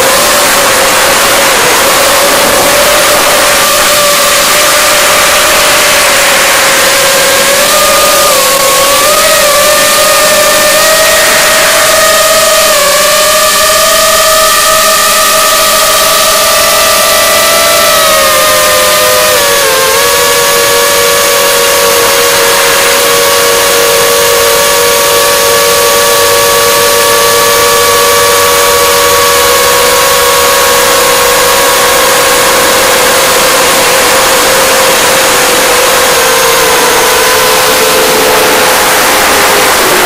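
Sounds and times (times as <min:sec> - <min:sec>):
high-pitched motor whine: 0:00.0 - 0:40.0
rush of wind: 0:00.0 - 0:40.0.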